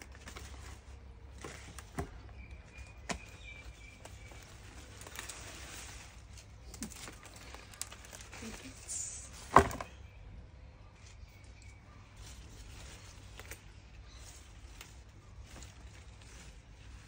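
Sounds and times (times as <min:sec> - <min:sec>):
rustling of leafy tops: 0:00.0 - 0:17.0.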